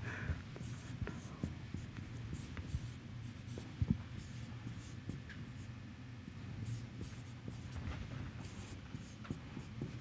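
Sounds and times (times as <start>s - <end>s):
low room hum: 0.0s - 10.0s
marker pen writing on whiteboard: 0.0s - 10.0s.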